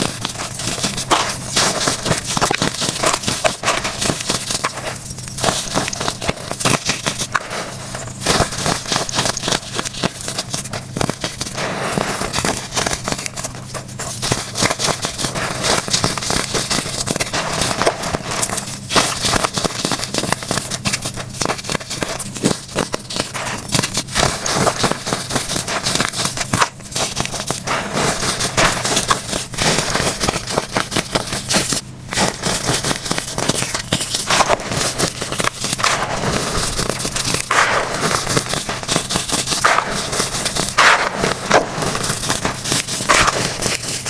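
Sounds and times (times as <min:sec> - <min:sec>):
baking soda blocks crushed: 0:00.0 - 0:44.0.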